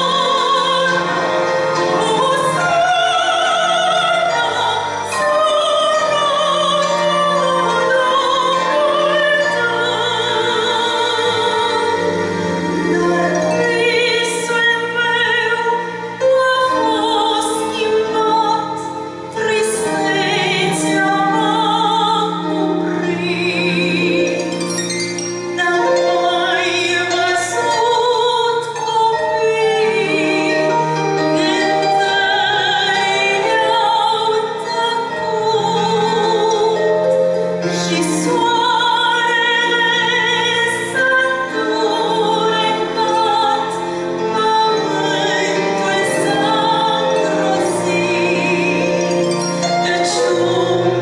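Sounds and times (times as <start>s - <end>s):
woman singing with vibrato: 0.0s - 24.8s, 25.4s - 51.0s
musical accompaniment with held notes: 0.0s - 51.0s.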